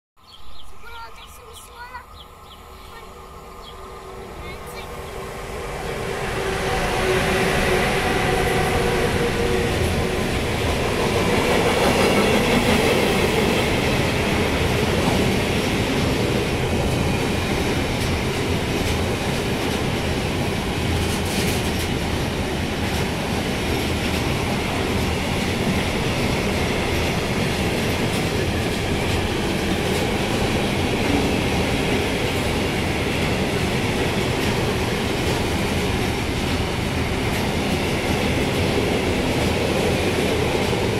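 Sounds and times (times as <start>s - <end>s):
electric locomotive hum: 0.6s - 40.9s
train wagons rumbling over rails: 0.9s - 40.9s.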